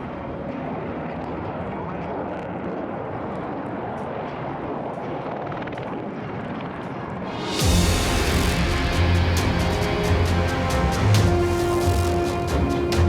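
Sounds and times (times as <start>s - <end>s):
aircraft drone: 0.0s - 13.0s.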